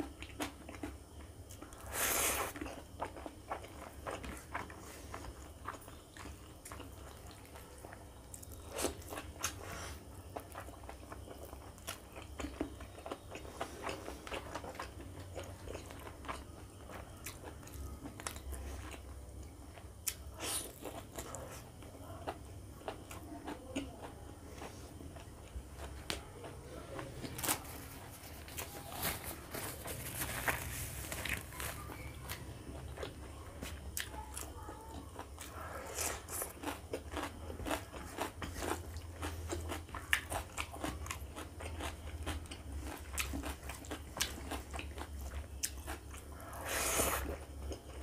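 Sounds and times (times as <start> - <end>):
chewing and wet mouth smacking: 2.6 - 9.6, 10.4 - 27.7, 31.2 - 48.0.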